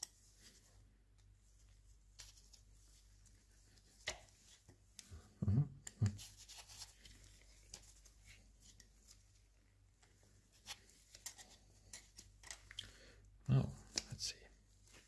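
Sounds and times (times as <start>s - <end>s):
faint handling sounds: 0.0s - 15.0s.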